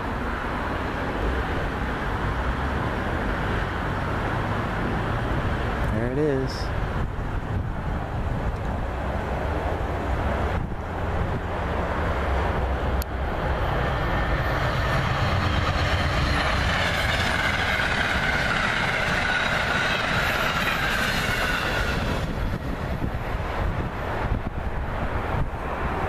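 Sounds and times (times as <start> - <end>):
train wheels rushing on rails: 0.0 - 26.0
locomotive engine rumble: 0.7 - 26.0.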